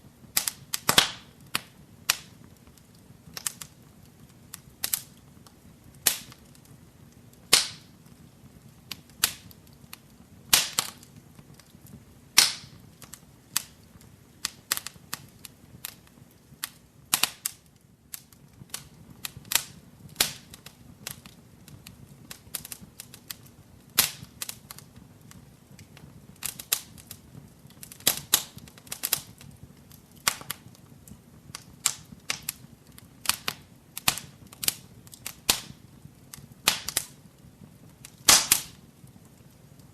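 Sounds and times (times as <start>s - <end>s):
low hum of flames: 0.0s - 39.9s
wood fire crackling and popping: 0.0s - 39.9s.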